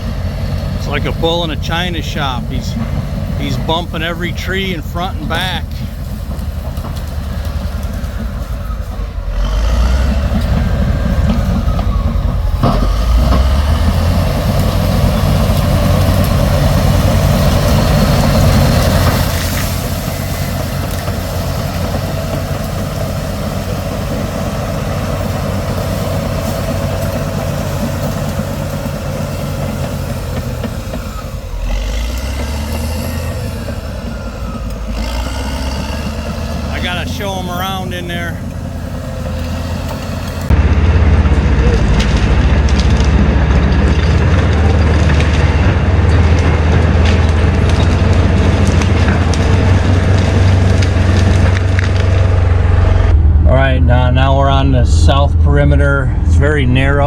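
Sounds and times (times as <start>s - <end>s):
bulldozer engine running: 0.0s - 57.0s.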